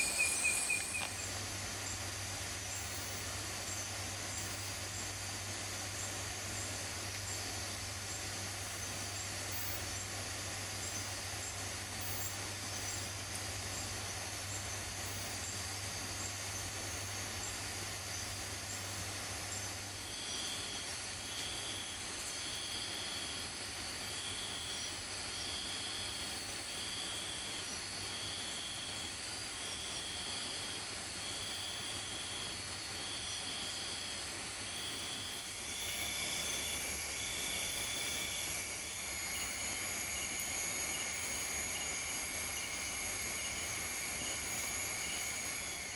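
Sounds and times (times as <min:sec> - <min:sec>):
high insect trills: 0:00.0 - 0:45.9
insect chorus hiss: 0:00.0 - 0:45.9.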